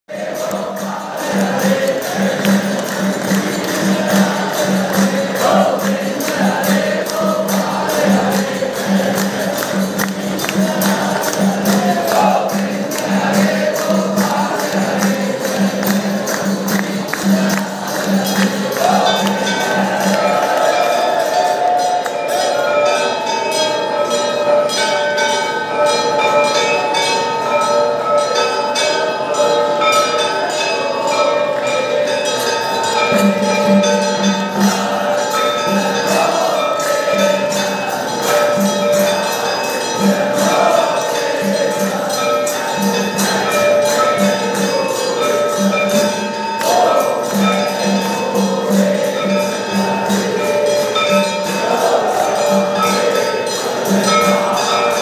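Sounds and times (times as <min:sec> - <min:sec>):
bells and cymbals ringing: 0:00.1 - 0:55.0
people singing: 0:00.1 - 0:55.0.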